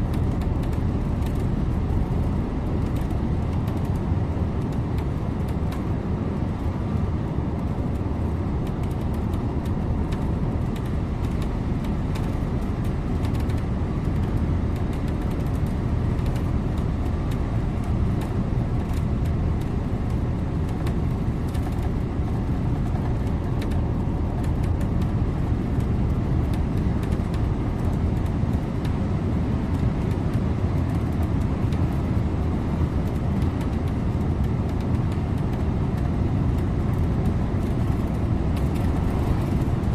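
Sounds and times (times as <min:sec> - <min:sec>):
bus driving: 0:00.0 - 0:39.9.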